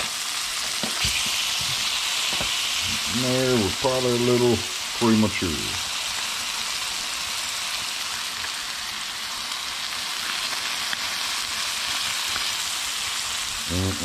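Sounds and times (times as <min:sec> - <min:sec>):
fish sizzling in a skillet: 0:00.0 - 0:14.0.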